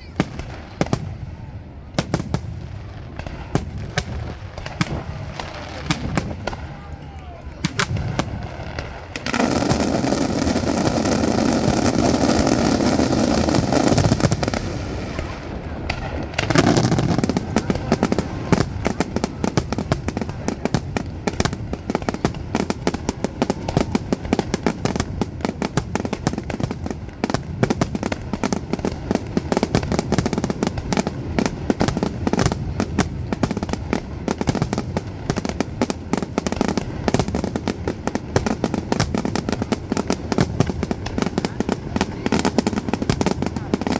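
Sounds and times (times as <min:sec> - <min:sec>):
fireworks crackling pops and bangs: 0:00.0 - 0:43.9
fireworks rushing burst: 0:00.0 - 0:43.9.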